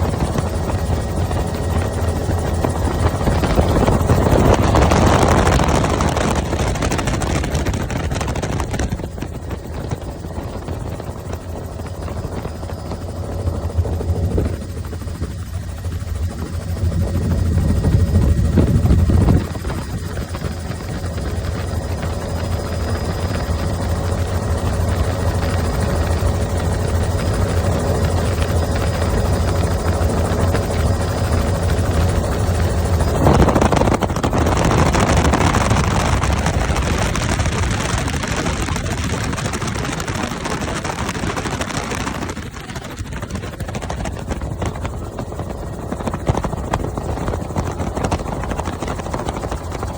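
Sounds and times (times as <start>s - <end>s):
helicopter rotor and engine drone: 0.0s - 49.9s.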